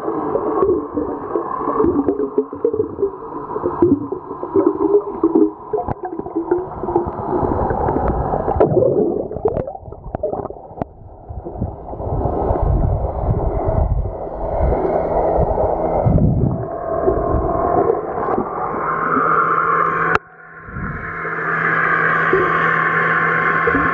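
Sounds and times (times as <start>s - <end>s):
water gurgling underwater: 0.0s - 19.7s, 23.4s - 23.9s
deep rumbling swells: 0.0s - 23.9s.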